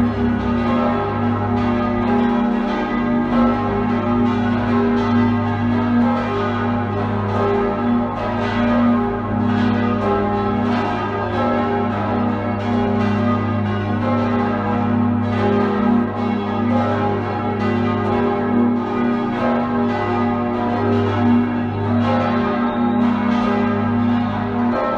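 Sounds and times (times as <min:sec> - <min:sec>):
church bells pealing: 0:00.0 - 0:24.9.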